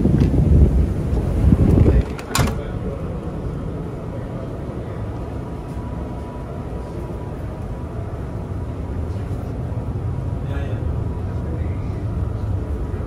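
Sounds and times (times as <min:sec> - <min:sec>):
heavy seas: 0:00.0 - 0:13.0
storm wind roaring: 0:00.0 - 0:13.0.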